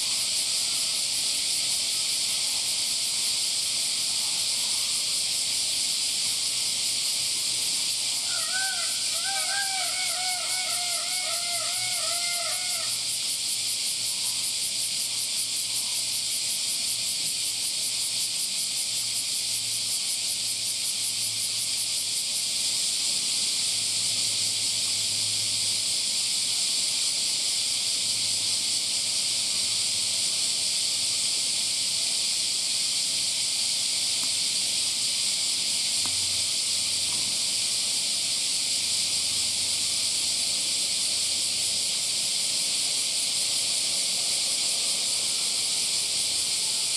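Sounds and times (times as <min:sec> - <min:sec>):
cicadas buzzing: 0:00.0 - 0:46.9.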